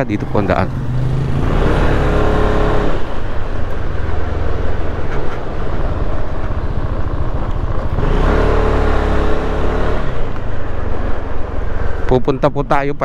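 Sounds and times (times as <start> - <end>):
road and wind noise: 0.0 - 13.0
scooter engine running: 0.2 - 12.1.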